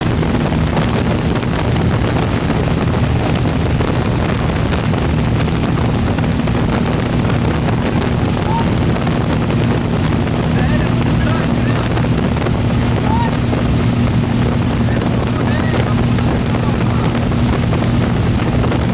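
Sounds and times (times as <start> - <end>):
aircraft engine running: 0.0 - 18.9
wind on microphone: 0.0 - 18.9.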